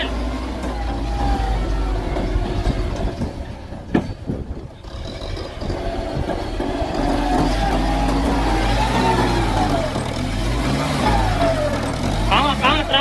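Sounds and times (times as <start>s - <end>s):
tractor engine under load: 0.0s - 13.0s
rattling and clanking knocks: 0.1s - 12.6s.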